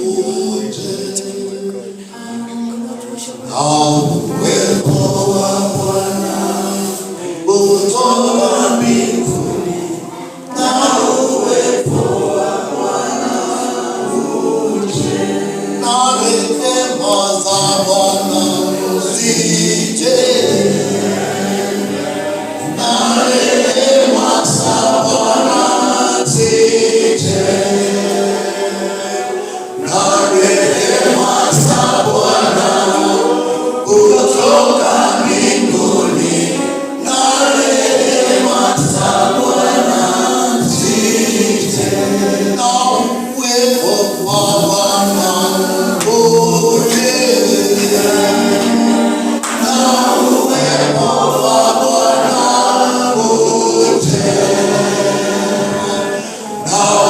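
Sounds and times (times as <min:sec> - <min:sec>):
choir singing gospel music: 0:00.0 - 0:57.0.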